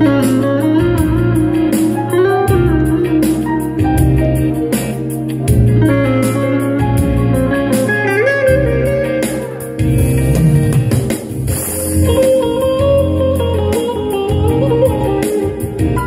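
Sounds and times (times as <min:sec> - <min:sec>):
keyboard bass line: 0:00.0 - 0:16.0
plucked electric lute melody: 0:00.0 - 0:16.0
drum beat: 0:02.5 - 0:16.0.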